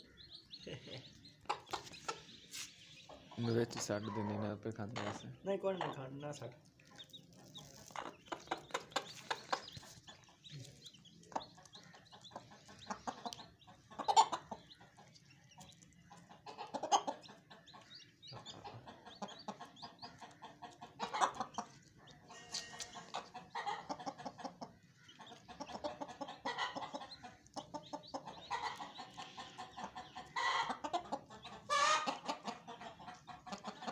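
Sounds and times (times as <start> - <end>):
hen clucking: 0.0 - 33.9.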